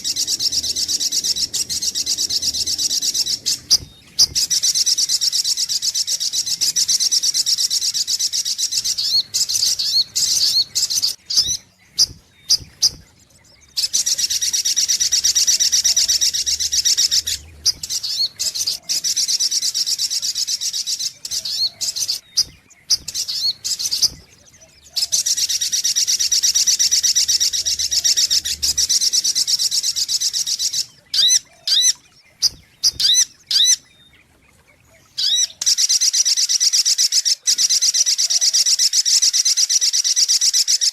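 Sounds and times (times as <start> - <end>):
sunbird high-pitched trills: 0.0 - 40.9.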